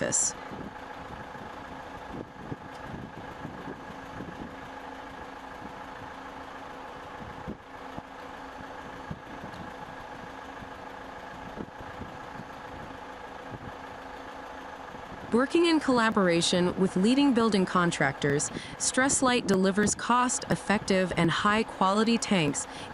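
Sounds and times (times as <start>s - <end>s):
factory machinery hum: 0.0s - 22.9s.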